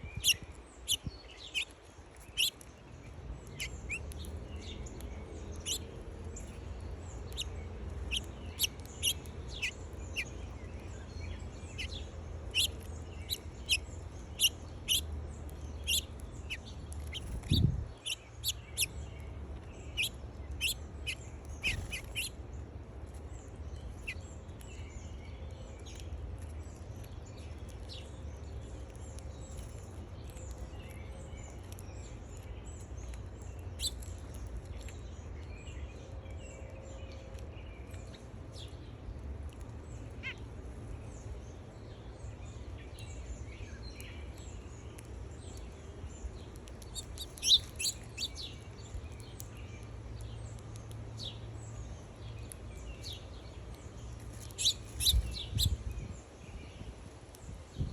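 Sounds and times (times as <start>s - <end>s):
small birds chirping: 0.0s - 57.9s
steady low rumble: 0.0s - 57.9s.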